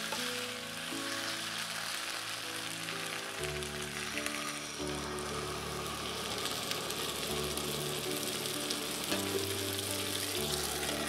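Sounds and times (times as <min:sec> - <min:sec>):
chicken sizzling in a pan: 0:00.0 - 0:11.0
soft background music: 0:00.0 - 0:11.0
water pouring: 0:00.0 - 0:11.0.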